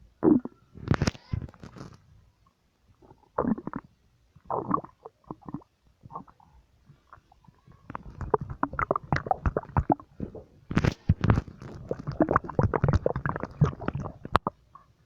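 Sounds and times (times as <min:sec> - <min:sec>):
stomach gurgling and rumbling: 0:00.2 - 0:02.0, 0:02.9 - 0:15.0.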